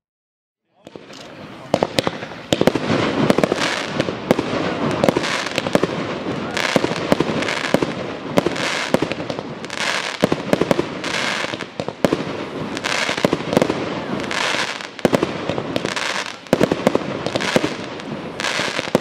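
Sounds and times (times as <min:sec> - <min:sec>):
crackling hiss of firework stars: 0:00.8 - 0:19.0
firework shells bursting with bangs: 0:00.8 - 0:19.0.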